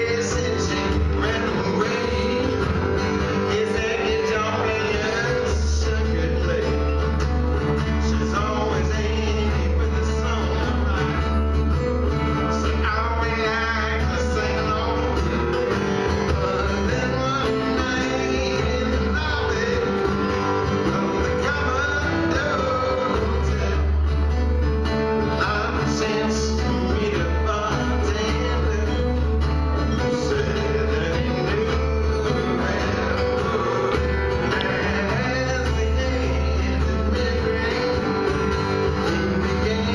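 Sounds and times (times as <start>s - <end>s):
person singing: 0.0s - 24.2s, 25.1s - 39.9s
acoustic guitars strumming: 0.0s - 39.9s.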